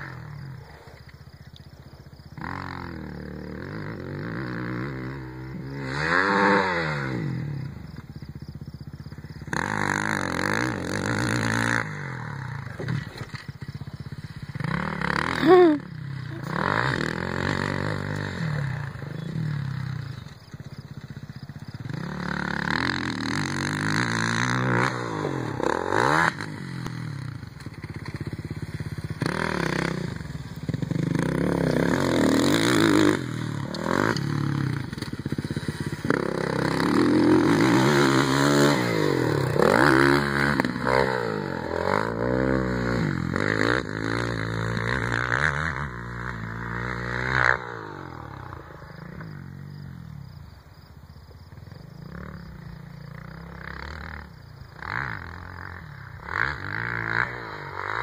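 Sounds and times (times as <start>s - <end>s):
motocross bike engine revving: 2.1s - 50.8s, 51.5s - 58.0s.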